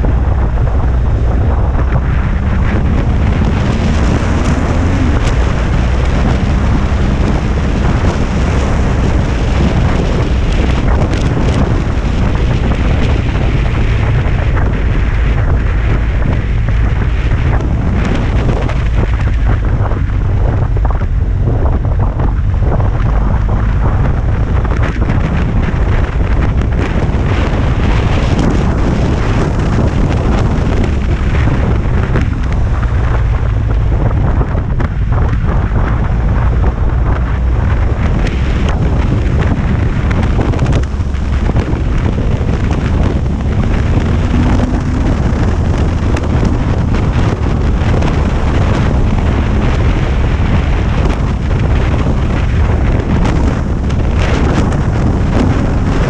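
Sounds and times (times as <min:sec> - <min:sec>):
motorcycle engine: 0:00.0 - 0:56.0
road rumble: 0:00.0 - 0:56.0
wind rush on microphone: 0:00.0 - 0:56.0.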